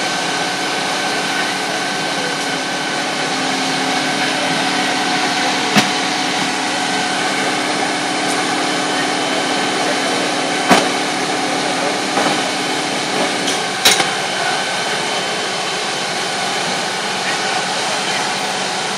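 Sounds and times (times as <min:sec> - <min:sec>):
fire engine running: 0:00.0 - 0:18.9.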